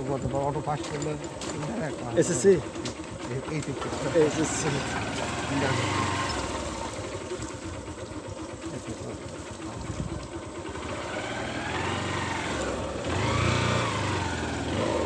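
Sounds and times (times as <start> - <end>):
small engine pulsing: 0.0 - 15.0.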